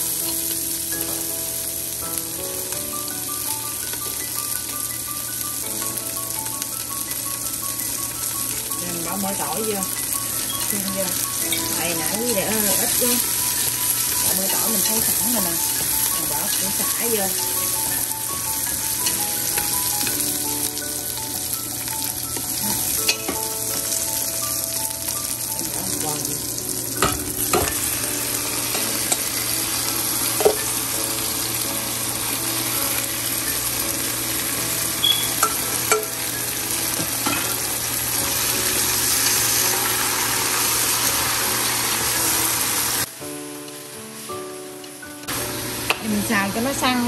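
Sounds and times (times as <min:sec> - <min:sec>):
meat sizzling in a pan: 0:00.0 - 0:47.0.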